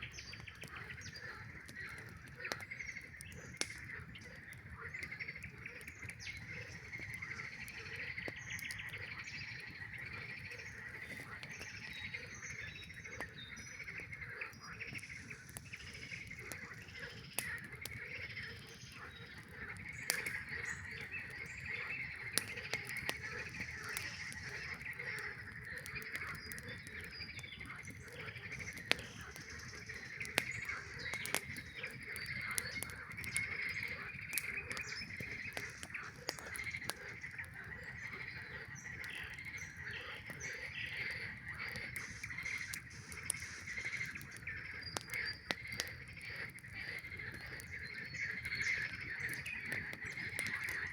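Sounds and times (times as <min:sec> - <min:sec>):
campfire crackling and popping: 0:00.0 - 0:50.9
frogs calling: 0:00.0 - 0:50.9.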